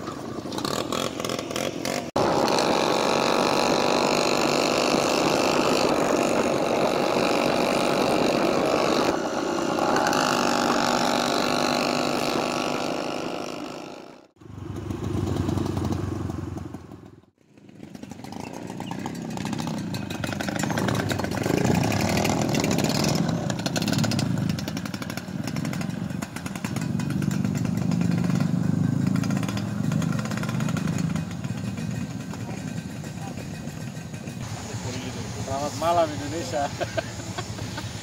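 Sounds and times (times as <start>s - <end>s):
scooter engines buzzing: 0.0s - 38.0s.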